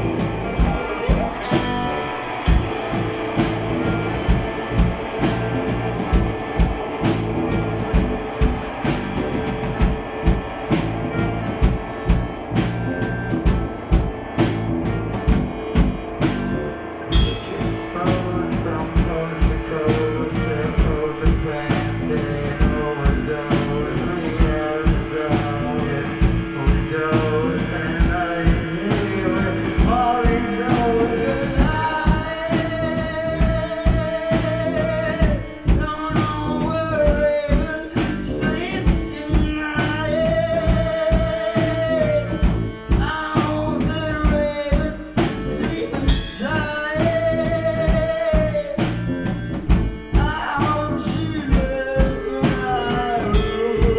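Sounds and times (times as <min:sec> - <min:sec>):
drum kit beat: 0:00.0 - 0:53.9
held melody line: 0:00.0 - 0:53.9
live rock band playing: 0:00.0 - 0:53.9.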